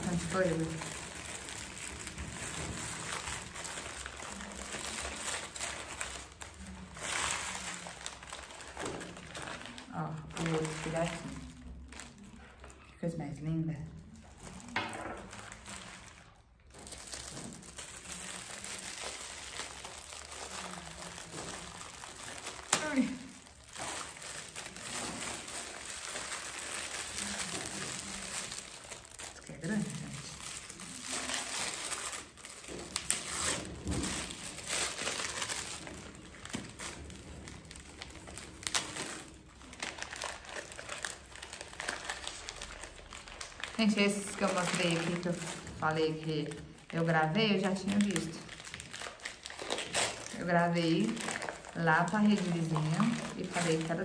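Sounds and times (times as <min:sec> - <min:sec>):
plastic wrapping crinkling: 0:00.0 - 0:54.0.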